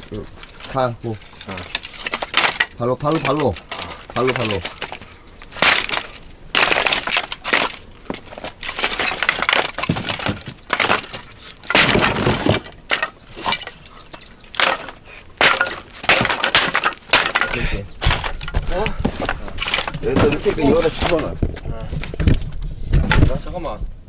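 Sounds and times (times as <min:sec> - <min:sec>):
dry wooden sticks snapping: 0:00.0 - 0:22.4.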